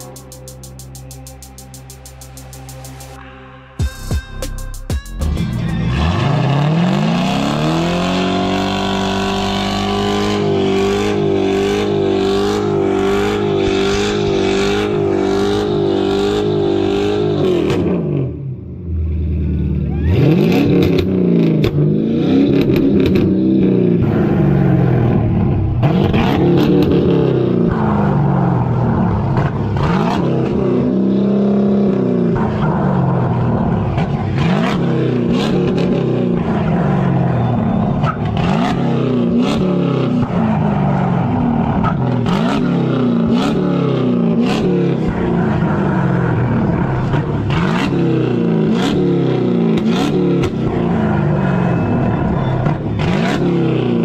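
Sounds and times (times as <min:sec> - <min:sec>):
car engine revving hard: 0:05.8 - 0:54.0.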